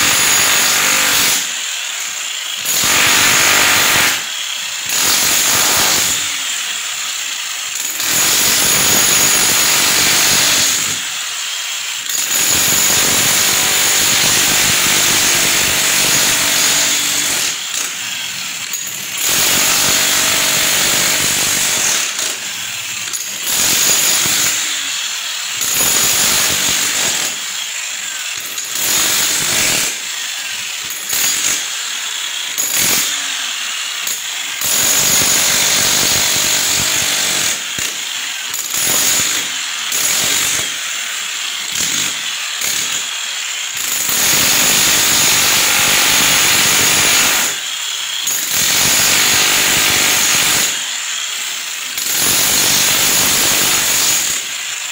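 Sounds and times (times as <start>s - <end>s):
handheld power tool running: 0.0s - 54.9s.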